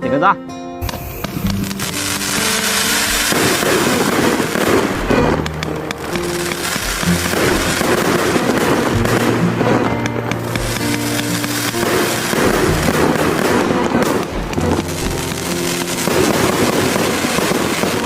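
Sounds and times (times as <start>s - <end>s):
faint background music: 0.0s - 18.0s
fireworks crackling: 0.8s - 18.0s.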